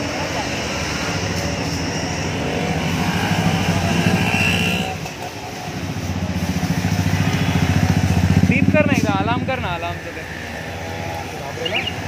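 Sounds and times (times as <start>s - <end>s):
motorcycle engine running: 1.6s - 12.0s.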